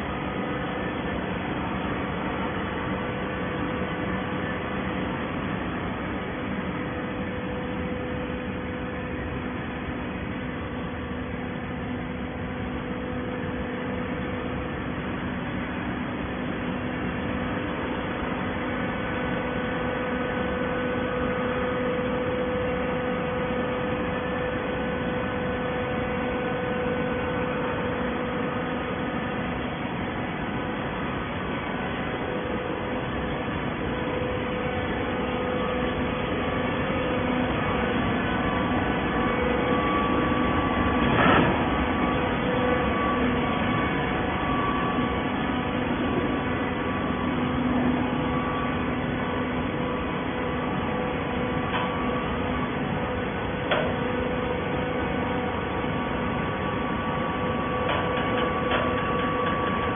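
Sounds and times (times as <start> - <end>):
hydraulic baler humming: 0.0 - 59.9.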